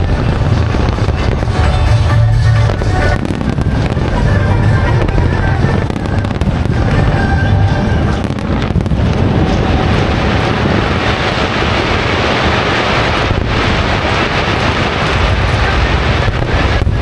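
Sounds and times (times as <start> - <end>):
fireworks bursts and crackling: 0.0 - 17.0.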